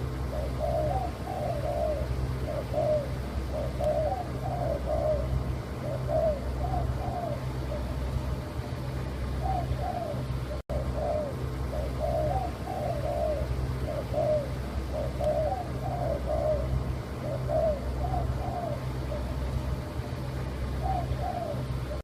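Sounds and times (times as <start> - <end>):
dove cooing: 0.0 - 22.0
low hum: 0.0 - 22.0.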